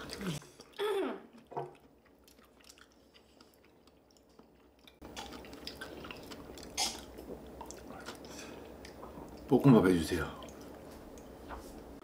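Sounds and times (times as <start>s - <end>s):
people chewing: 0.0s - 9.5s, 10.4s - 11.9s.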